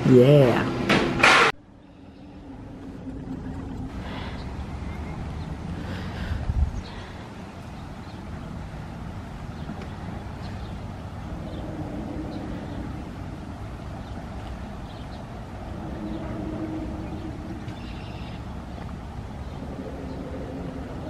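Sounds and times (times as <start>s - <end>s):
faint hum: 1.6s - 21.0s
distant motor engine rumble: 1.7s - 21.0s.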